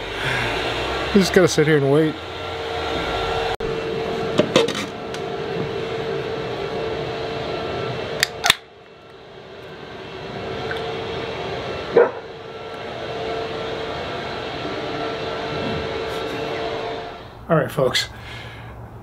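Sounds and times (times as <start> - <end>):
leaf blower drone: 0.0 - 18.9
distant aircraft: 0.0 - 19.0.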